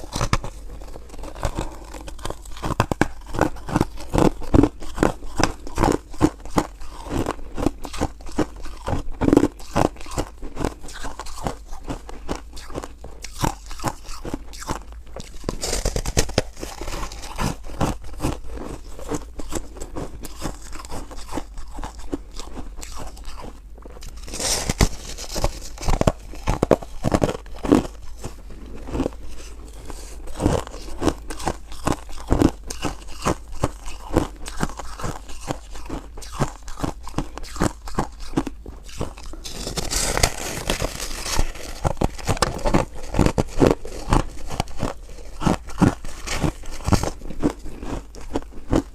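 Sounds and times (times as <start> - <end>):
chewing ice crunches: 0.0 - 48.9.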